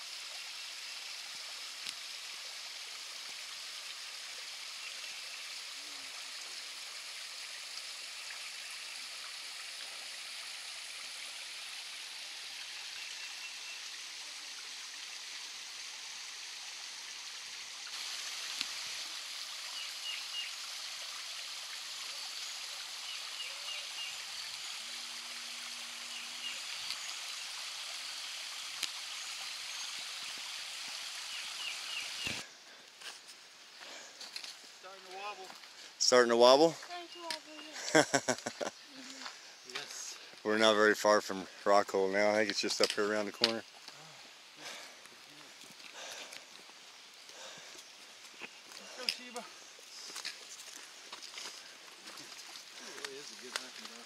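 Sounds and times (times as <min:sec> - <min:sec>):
creek water running: 0:00.0 - 0:54.0.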